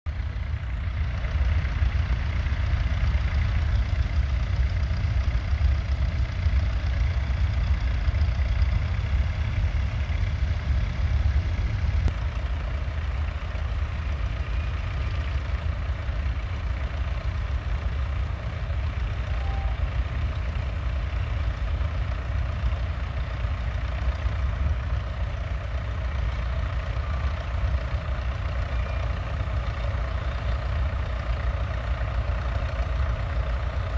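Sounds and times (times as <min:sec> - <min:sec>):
diesel engine rumbling: 0:00.1 - 0:33.9.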